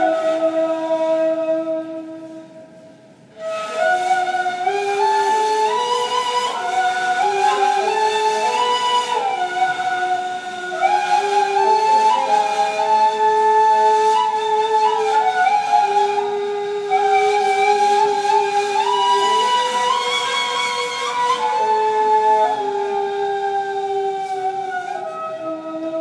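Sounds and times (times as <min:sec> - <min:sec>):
two cane flutes playing: 0:00.0 - 0:26.0.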